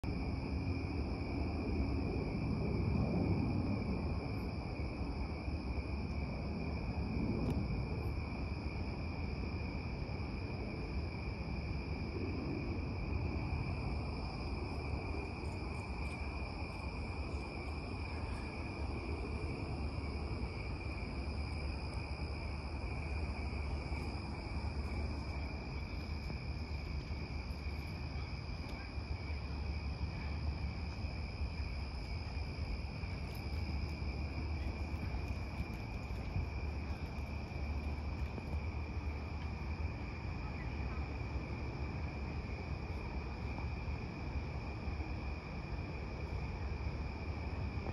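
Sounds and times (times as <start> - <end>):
crickets chirping: 0.0 - 47.9
low background rumble: 0.1 - 44.1.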